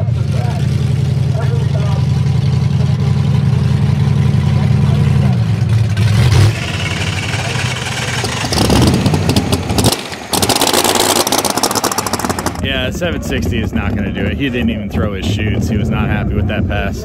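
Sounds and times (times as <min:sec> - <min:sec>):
race car engine rolling past: 0:00.0 - 0:16.9
race car engine idling: 0:00.0 - 0:17.0.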